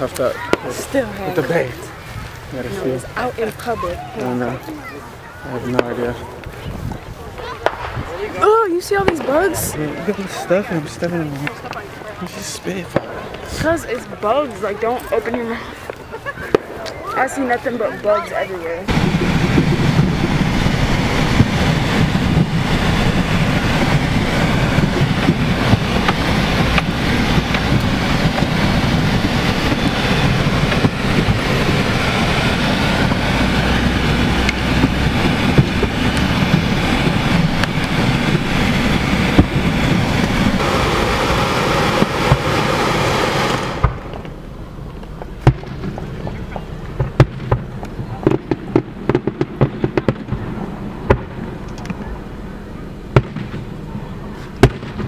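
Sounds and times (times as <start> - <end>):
fireworks bangs and crackles: 0.0 - 55.0
loud steady rush of noise: 0.0 - 55.0.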